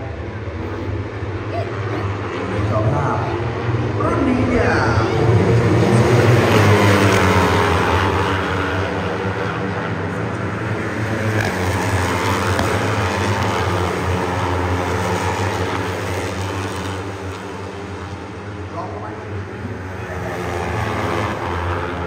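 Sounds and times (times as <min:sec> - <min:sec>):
race motorcycles revving past: 0:00.2 - 0:22.0.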